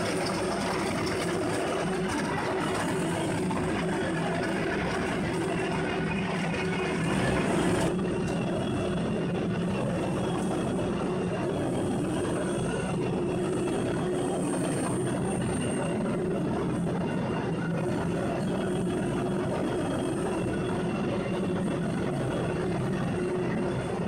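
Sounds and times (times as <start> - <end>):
shredder mechanical drone: 0.0 - 24.0.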